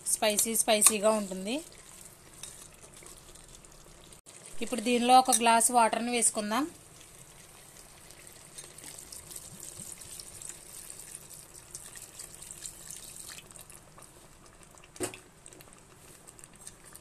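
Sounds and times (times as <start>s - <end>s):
water trickling into a pan: 0.6s - 17.0s.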